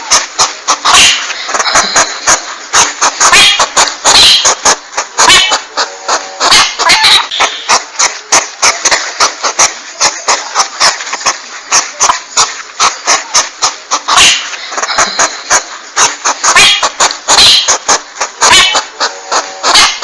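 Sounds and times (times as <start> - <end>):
rough noisy porcupine calls: 0.0 - 20.0.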